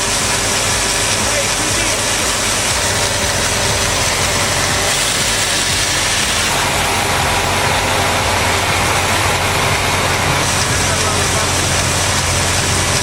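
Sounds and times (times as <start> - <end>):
heavy machinery engine drone: 0.0 - 13.0.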